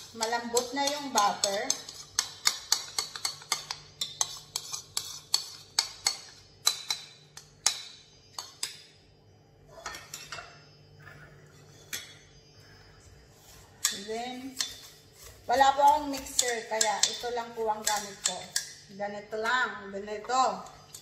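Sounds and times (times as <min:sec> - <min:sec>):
metal spoon clinking on bowl: 0:00.0 - 0:09.0, 0:09.7 - 0:12.4, 0:13.8 - 0:19.5, 0:20.3 - 0:21.0.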